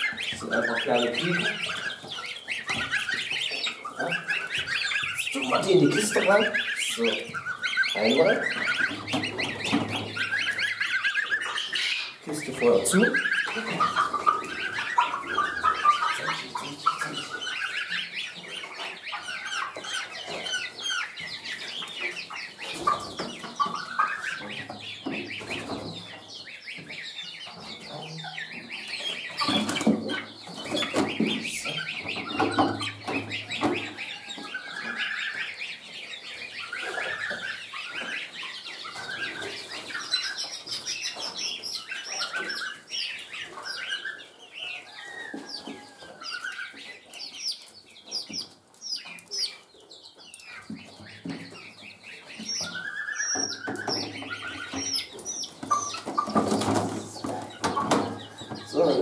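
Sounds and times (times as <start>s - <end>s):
chickens clucking: 0.0s - 59.0s
chicks peeping and squawking: 0.0s - 59.0s.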